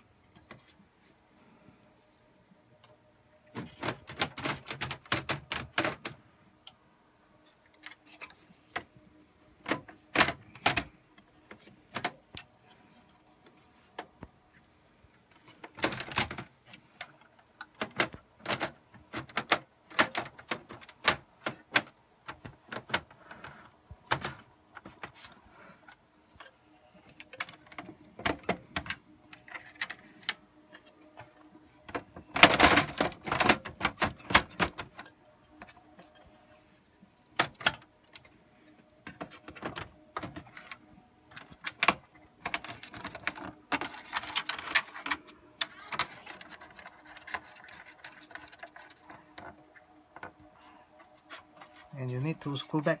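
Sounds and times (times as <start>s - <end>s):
hands rattling computer parts: 2.8s - 6.8s, 7.6s - 53.0s.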